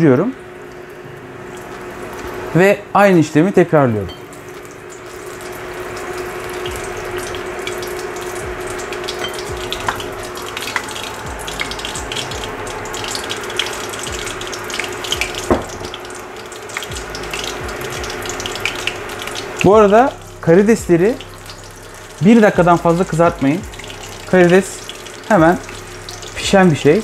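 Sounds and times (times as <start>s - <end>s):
food deep-frying in oil: 0.0s - 27.0s
oil popping and crackling: 4.2s - 27.0s.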